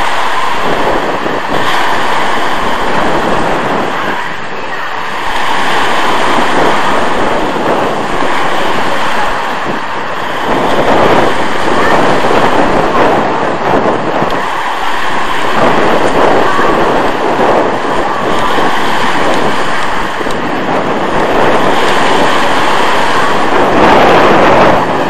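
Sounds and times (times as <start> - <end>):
waves washing over pebbles: 0.0 - 25.0
wind buffeting microphone: 0.0 - 25.0.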